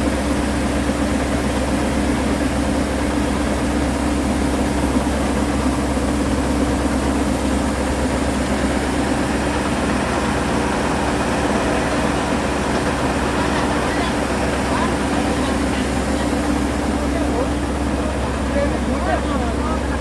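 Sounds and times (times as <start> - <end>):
harvester engine droning: 0.0 - 20.0.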